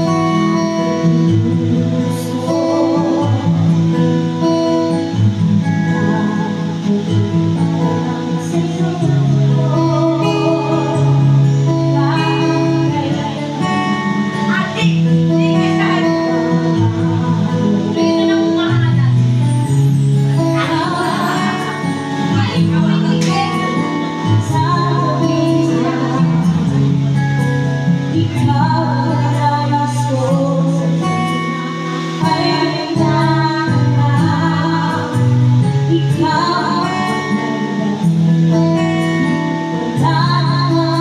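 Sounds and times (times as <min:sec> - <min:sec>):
backing music with bass line: 0:00.0 - 0:41.0
woman singing into a microphone: 0:00.0 - 0:41.0.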